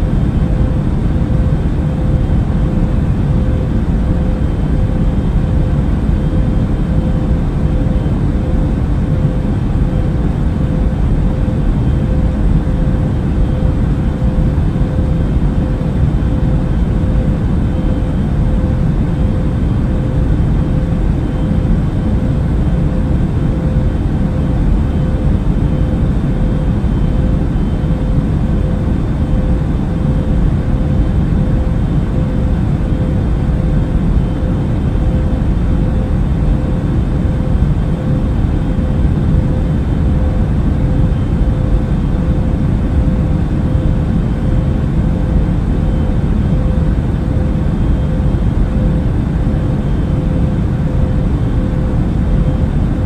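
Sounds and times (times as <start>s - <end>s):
airplane cabin engine rumble: 0.0s - 53.0s
faint hum: 0.0s - 53.0s.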